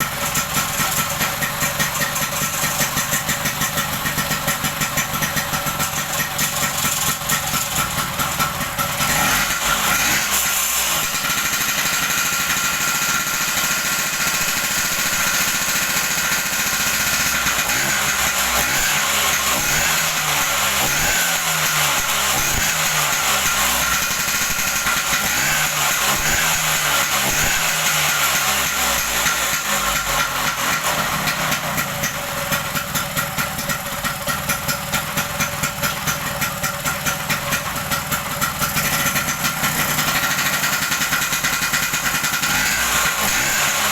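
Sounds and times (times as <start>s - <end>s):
scooter engine running: 0.0s - 43.9s.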